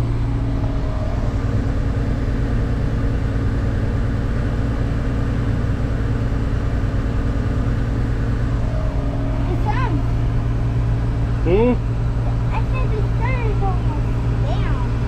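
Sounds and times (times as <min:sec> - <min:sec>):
tractor diesel engine humming: 0:00.0 - 0:15.0.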